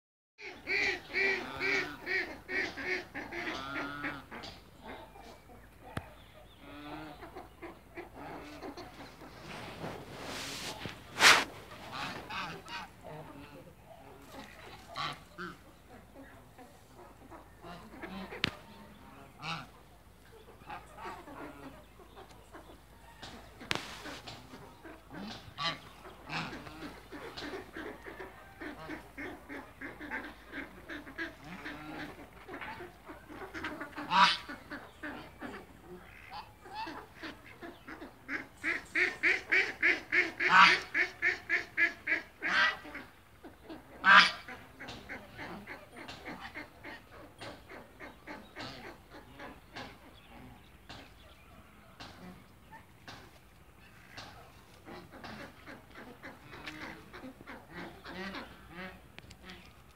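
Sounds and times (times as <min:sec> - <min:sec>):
geese honking: 0:00.4 - 0:59.9.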